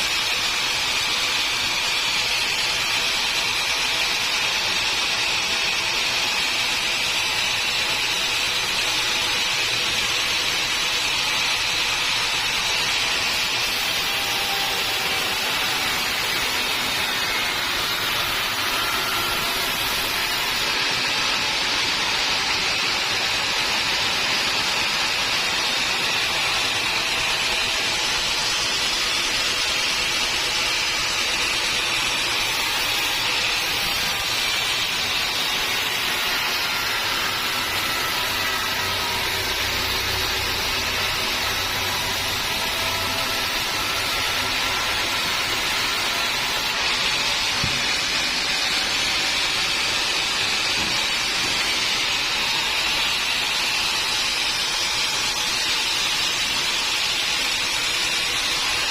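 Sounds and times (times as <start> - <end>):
sawmill saw hissing: 0.0 - 58.9.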